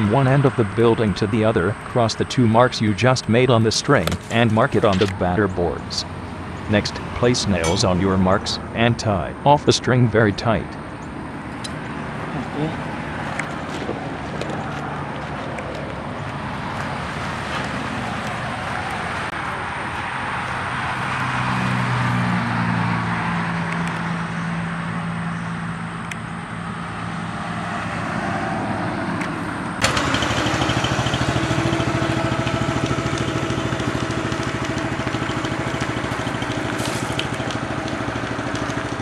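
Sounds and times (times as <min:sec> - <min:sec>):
engine droning: 0:00.0 - 0:39.0.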